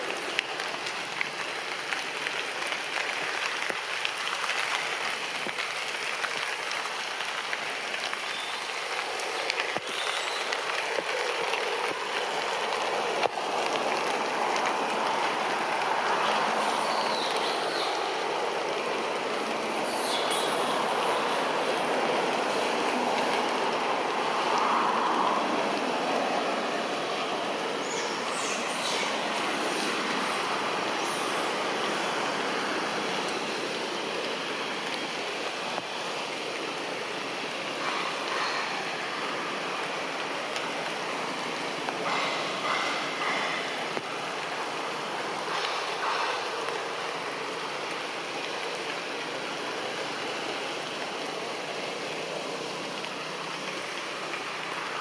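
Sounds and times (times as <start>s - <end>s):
rushing outdoor background noise: 0.0s - 55.0s.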